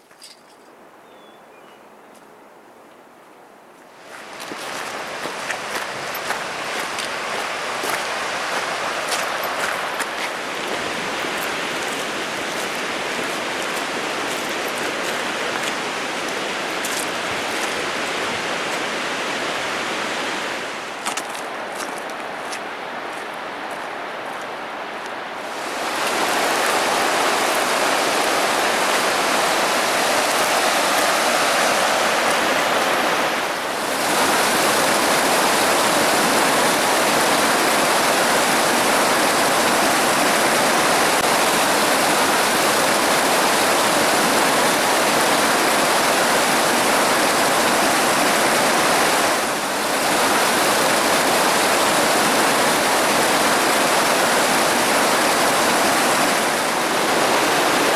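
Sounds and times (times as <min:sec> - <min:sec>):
river rushing over rocks: 0:03.9 - 0:57.9.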